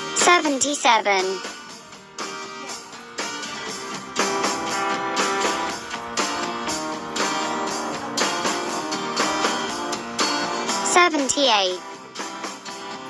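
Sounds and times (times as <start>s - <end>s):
strummed guitar music: 0.0s - 13.0s.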